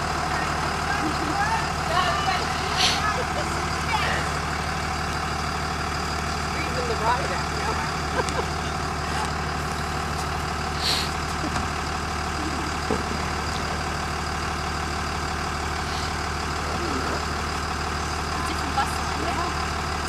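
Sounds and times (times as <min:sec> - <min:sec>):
bus engine idling: 0:00.0 - 0:20.0.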